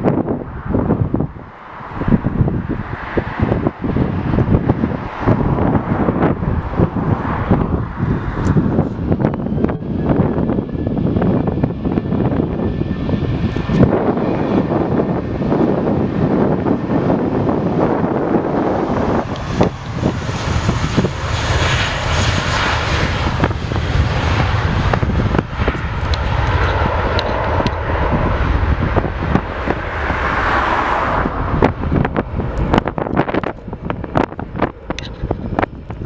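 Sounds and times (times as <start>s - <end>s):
jet engines roaring: 0.0s - 36.0s
wind buffeting microphone: 0.0s - 36.0s.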